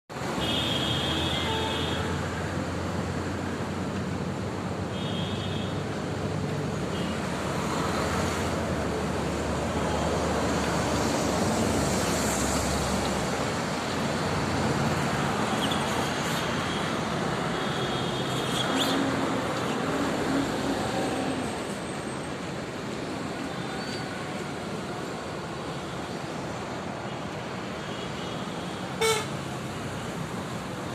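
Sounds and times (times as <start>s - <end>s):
road traffic noise: 0.1s - 30.9s.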